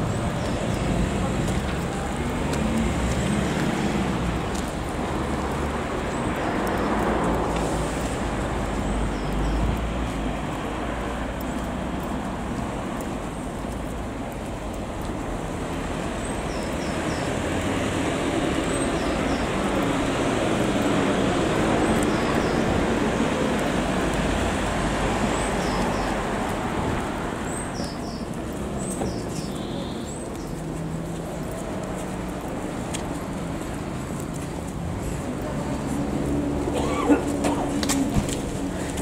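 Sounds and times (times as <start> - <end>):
vehicle engine and tyre noise: 0.0 - 39.0.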